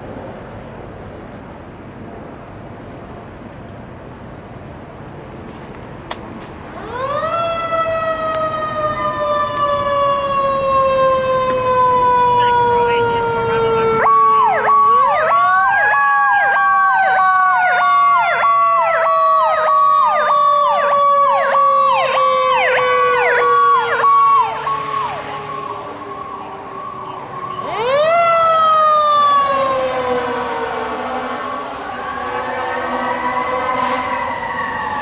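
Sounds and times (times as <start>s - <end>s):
wailing fire truck siren: 6.7s - 35.0s
fast cycling siren: 6.8s - 35.0s.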